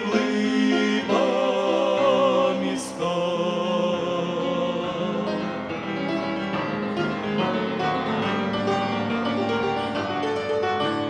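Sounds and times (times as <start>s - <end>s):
piano playing chords and melody: 0.0s - 11.0s.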